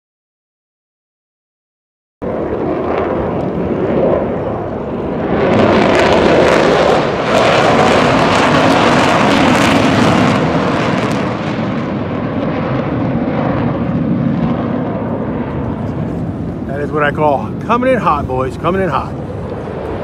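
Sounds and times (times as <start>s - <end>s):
jet aircraft flying past: 2.2s - 20.0s.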